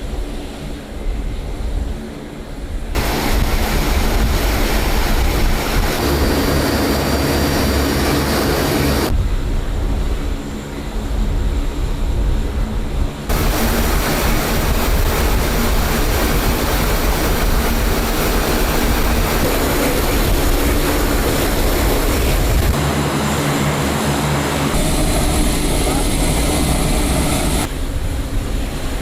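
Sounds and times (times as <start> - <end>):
turboprop engines running: 0.0 - 29.0.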